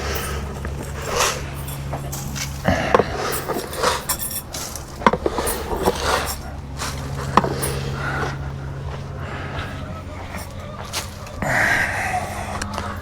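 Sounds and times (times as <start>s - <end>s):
soft scraping: 0.0s - 11.4s
feeding bowls knocking and clinking: 0.0s - 13.0s
steady low hum: 0.0s - 13.0s.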